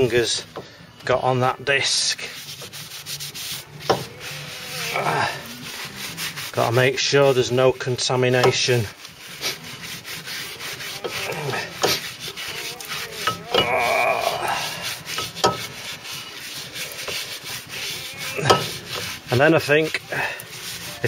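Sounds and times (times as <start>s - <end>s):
cloth scrubbing metal disc: 1.2s - 21.0s.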